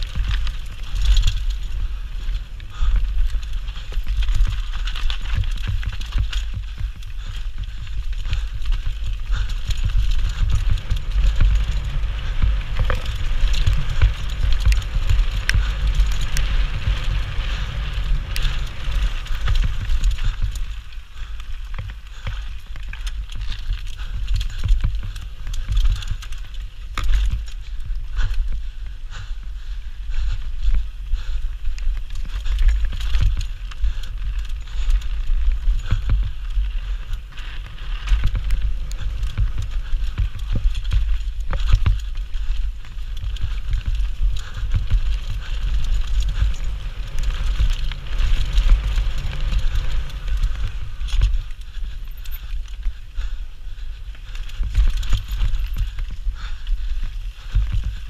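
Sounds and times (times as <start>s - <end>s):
tyres rolling over dirt and stones: 0.0s - 27.9s, 31.8s - 53.1s, 54.0s - 58.0s
bike knocking and rattling: 0.0s - 58.0s
wind buffeting microphone: 0.0s - 58.0s.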